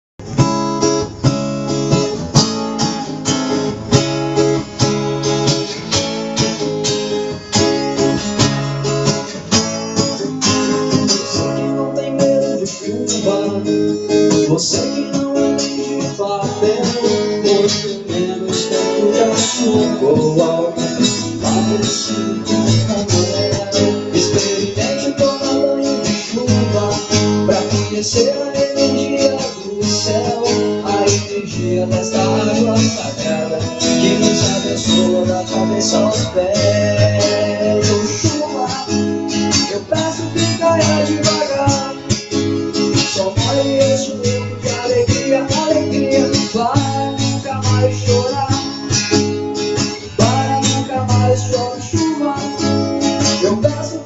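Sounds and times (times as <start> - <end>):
acoustic guitars strummed: 0.2 - 54.0.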